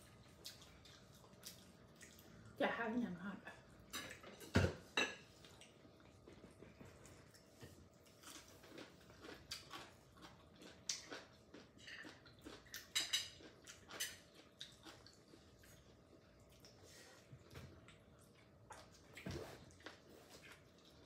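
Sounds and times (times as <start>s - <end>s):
chewing: 0.0s - 2.6s, 5.2s - 21.0s.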